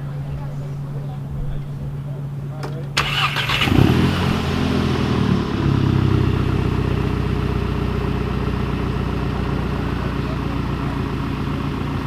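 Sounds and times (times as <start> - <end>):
car engine idling: 2.0 - 12.0.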